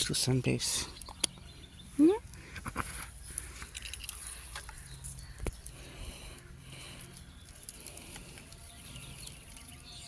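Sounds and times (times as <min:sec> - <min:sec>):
distant birds calling: 0:00.0 - 0:10.0.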